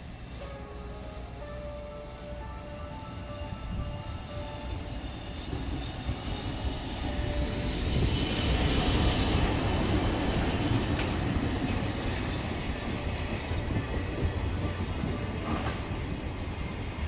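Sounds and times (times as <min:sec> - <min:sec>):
train wheels rumbling on rails: 0:02.8 - 0:17.0.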